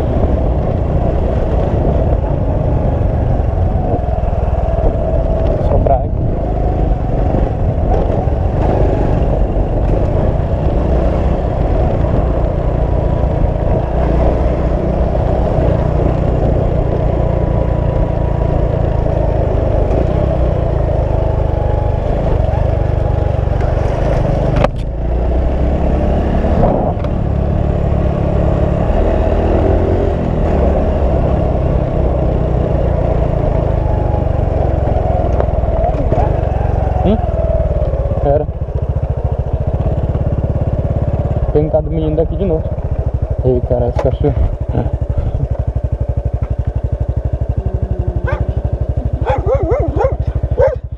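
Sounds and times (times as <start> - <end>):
motorcycle engine running: 0.0 - 50.9
road noise: 0.0 - 50.9.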